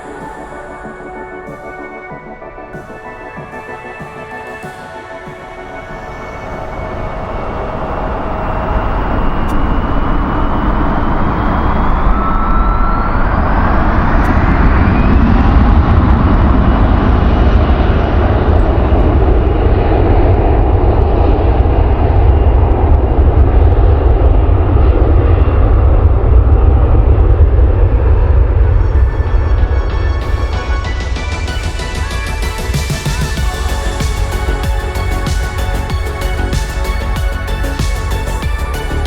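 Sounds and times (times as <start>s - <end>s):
jet engines roaring: 0.0s - 39.0s
turbine whine rising: 0.0s - 39.0s.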